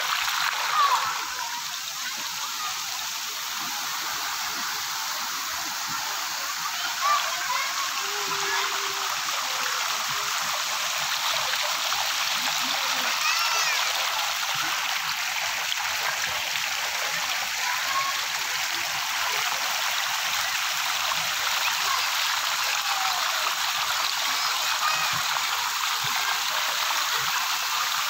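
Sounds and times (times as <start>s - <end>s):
fountain water splashing: 0.0s - 28.0s.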